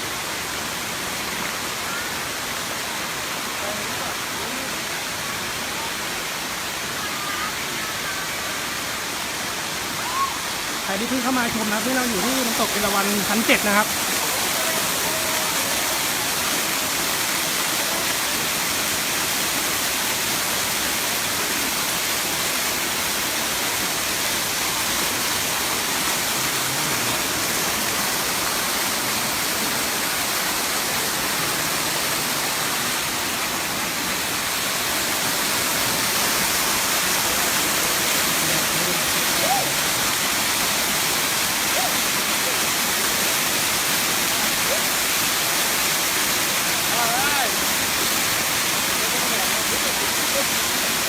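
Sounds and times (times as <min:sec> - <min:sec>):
waterfall pouring: 0:00.0 - 0:51.0.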